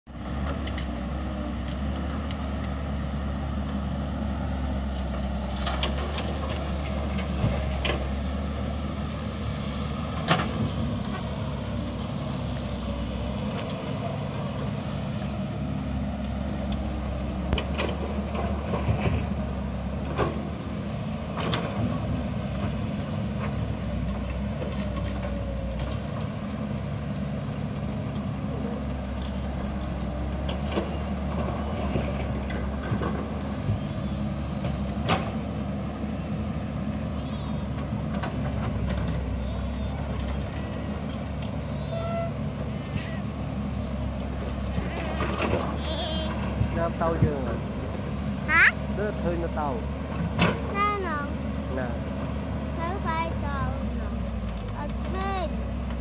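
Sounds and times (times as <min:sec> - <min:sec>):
diesel excavator engine running: 0:00.1 - 0:56.0.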